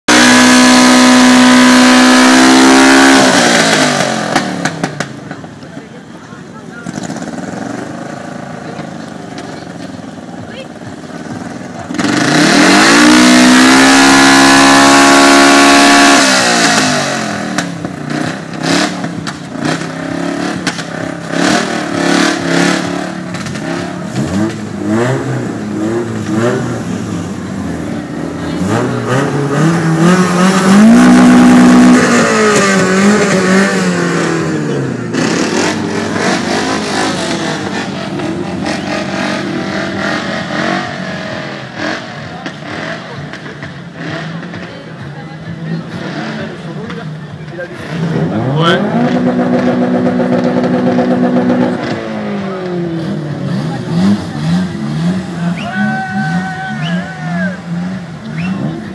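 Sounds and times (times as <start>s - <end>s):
car engine revving hard: 0.0s - 5.1s, 11.2s - 44.7s, 45.5s - 58.9s
exhaust crackling and popping: 0.1s - 14.7s, 15.6s - 45.1s, 46.3s - 58.9s.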